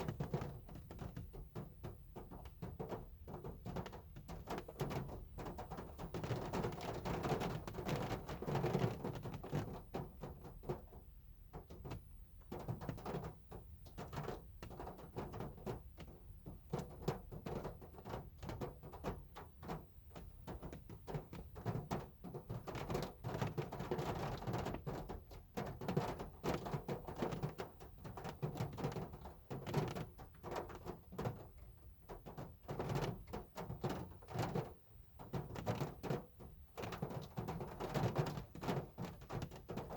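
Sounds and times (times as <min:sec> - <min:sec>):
rain drumming on a car: 0:00.0 - 0:39.9.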